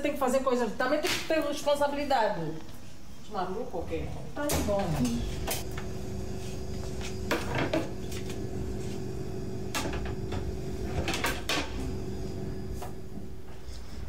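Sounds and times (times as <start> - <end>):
faint steady hum: 1.9 - 14.0.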